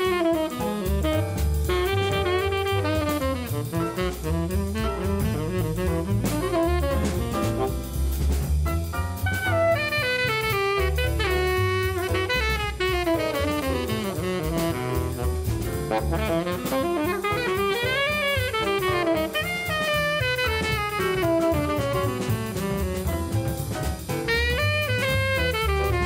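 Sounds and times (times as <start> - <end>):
bass: 0.0 - 26.0
drums: 0.0 - 26.0
jazz melody line: 0.0 - 26.0.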